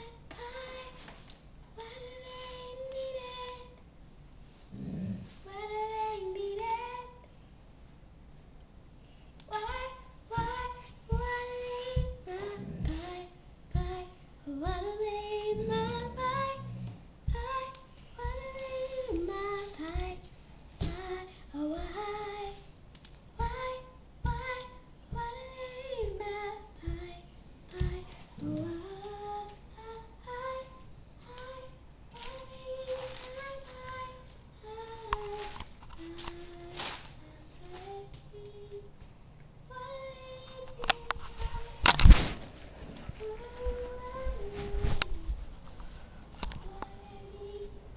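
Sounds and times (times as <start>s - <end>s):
young girl singing: 0.0s - 3.8s, 5.4s - 7.3s, 9.4s - 39.0s, 39.6s - 42.3s, 43.0s - 45.5s, 46.4s - 47.9s.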